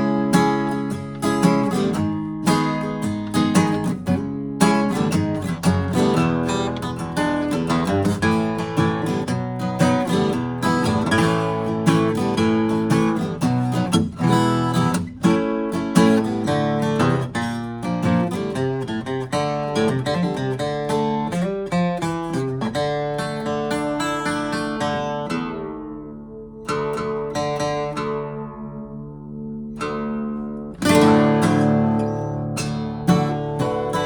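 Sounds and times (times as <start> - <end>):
acoustic guitar strummed and picked: 0.0 - 34.0.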